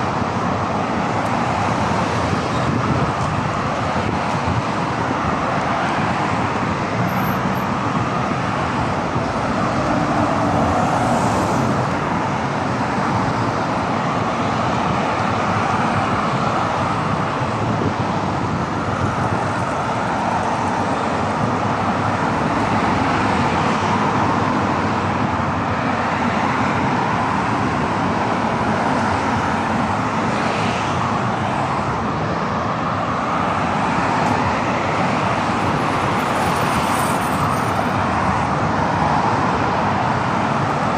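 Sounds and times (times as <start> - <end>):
cars passing: 0.0 - 40.9.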